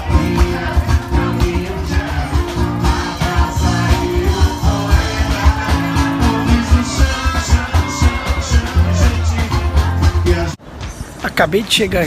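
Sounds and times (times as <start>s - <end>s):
music with beat and bass: 0.0s - 10.6s.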